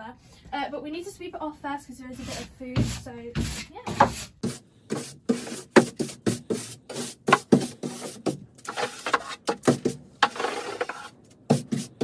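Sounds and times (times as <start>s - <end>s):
brush sweeping wooden shelf: 2.2s - 12.0s.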